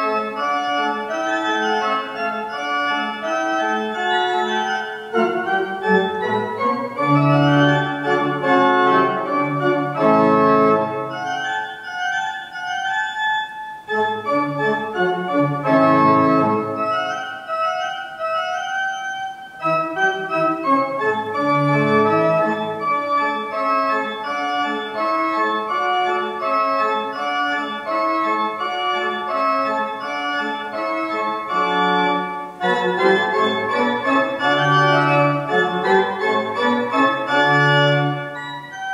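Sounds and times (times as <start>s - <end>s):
church pipe organ playing chords: 0.0s - 38.9s.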